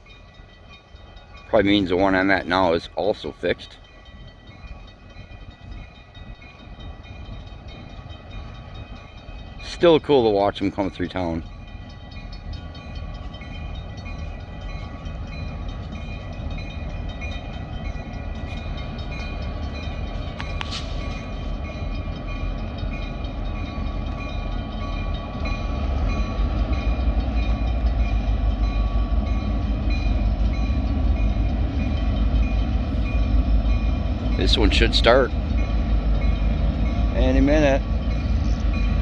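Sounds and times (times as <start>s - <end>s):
diesel locomotive engine rumble: 0.0s - 39.0s.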